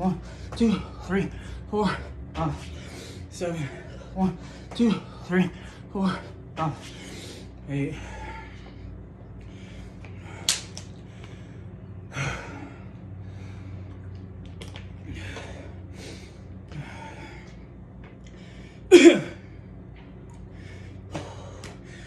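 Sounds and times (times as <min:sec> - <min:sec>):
man breathing hard and gasping: 0:00.0 - 0:14.2, 0:14.9 - 0:22.0
low steady hum: 0:00.0 - 0:22.0.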